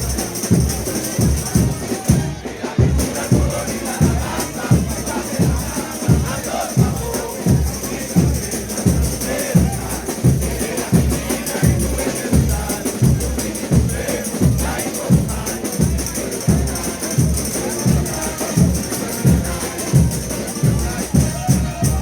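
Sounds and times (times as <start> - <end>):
steady drum beat: 0.0 - 22.0
street brass band playing: 0.0 - 22.0.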